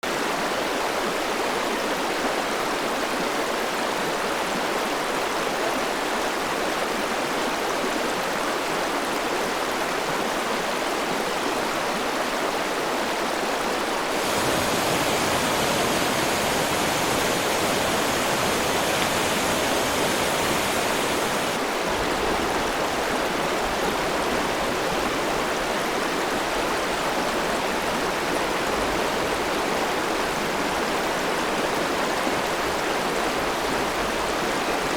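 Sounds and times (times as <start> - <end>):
river water rushing over stones: 0.6 - 34.9.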